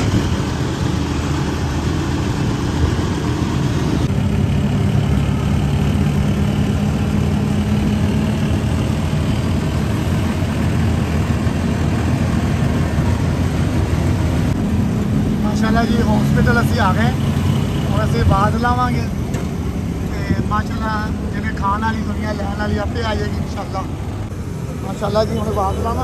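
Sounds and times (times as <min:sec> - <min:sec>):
rickshaw engine humming: 0:00.0 - 0:26.0.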